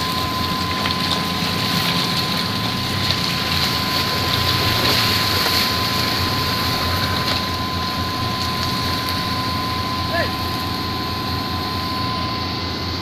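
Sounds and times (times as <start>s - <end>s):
diesel truck engine at low revs: 0.0s - 13.0s.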